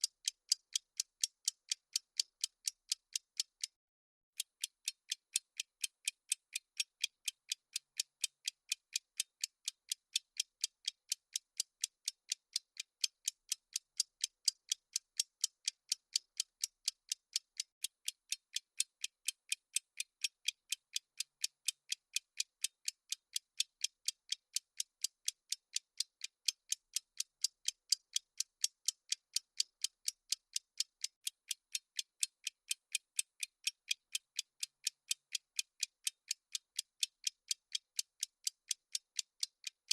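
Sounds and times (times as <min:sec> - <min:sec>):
clock ticking: 0:00.0 - 0:03.7, 0:04.4 - 0:39.9.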